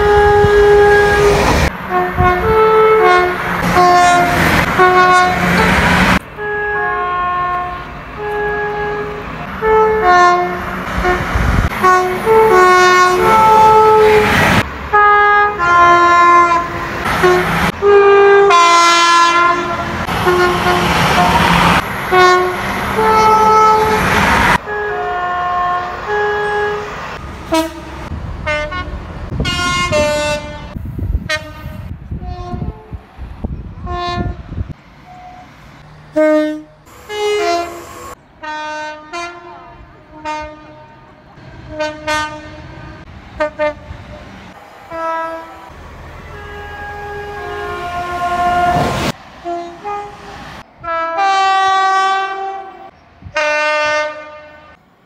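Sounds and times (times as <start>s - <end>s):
two-tone train horn blasts: 0.0s - 33.0s, 33.8s - 44.0s, 44.9s - 54.8s
passing train rumble: 0.0s - 55.0s.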